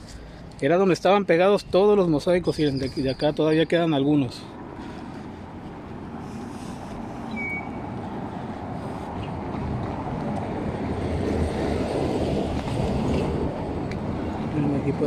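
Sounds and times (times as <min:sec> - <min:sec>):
passing vehicle rumble: 0:01.8 - 0:15.0.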